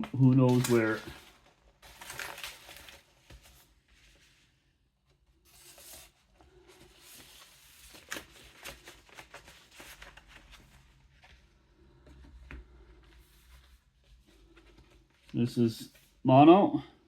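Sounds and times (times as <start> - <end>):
paper and cardboard rustling: 0.0 - 16.2.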